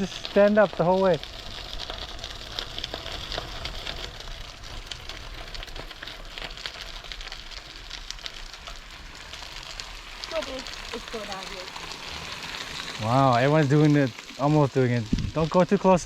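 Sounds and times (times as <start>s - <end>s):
bicycle tyres on gravel: 0.0s - 16.0s.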